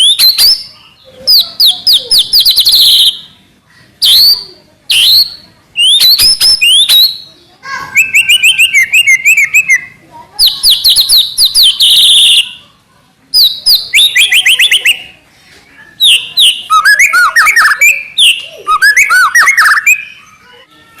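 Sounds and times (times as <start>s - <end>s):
bird singing whistled phrases: 0.0s - 0.7s, 1.3s - 3.4s, 4.0s - 12.7s, 13.3s - 15.2s, 15.9s - 20.4s.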